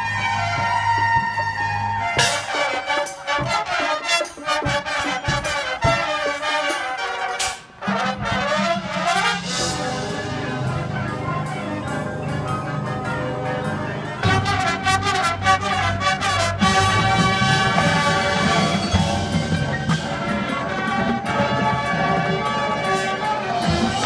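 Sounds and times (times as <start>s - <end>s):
marching band playing: 0.0s - 24.0s
drum strikes: 0.6s - 10.9s, 14.2s - 24.0s.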